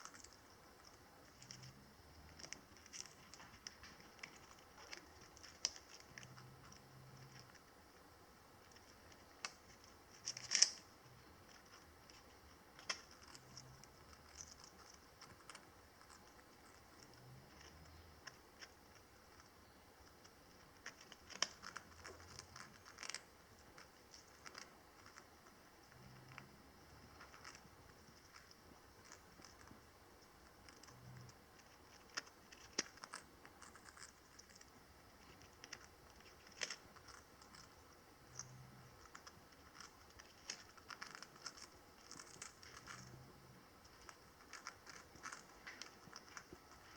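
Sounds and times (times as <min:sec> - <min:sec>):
parrot crunching a biscuit: 0:00.0 - 0:46.9.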